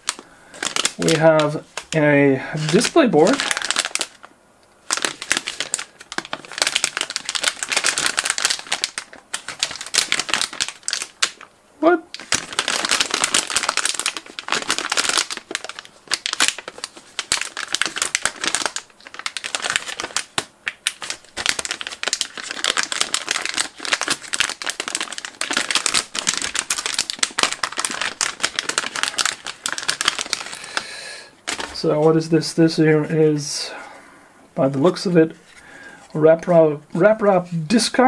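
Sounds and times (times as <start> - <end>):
plastic bag crinkling: 0.0 - 32.1.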